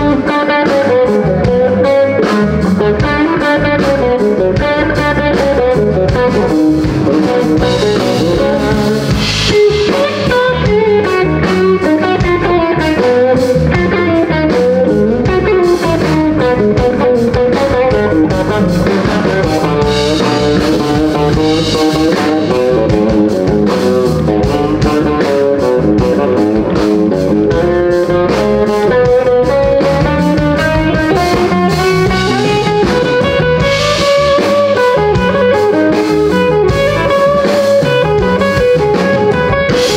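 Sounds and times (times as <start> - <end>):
blues band playing: 0.0 - 39.9
drum kit: 0.0 - 39.9
electric guitar: 0.0 - 39.9.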